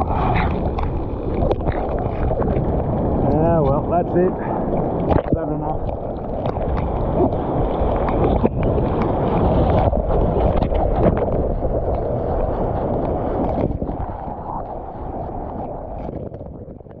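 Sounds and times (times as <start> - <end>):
water sloshing and splashing: 0.0 - 17.0
wind buffeting microphone: 0.0 - 17.0.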